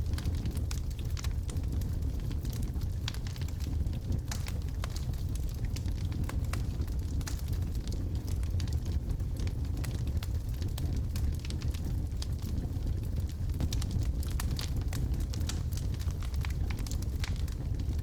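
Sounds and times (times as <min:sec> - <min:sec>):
logs crackling and popping in fire: 0:00.0 - 0:18.0.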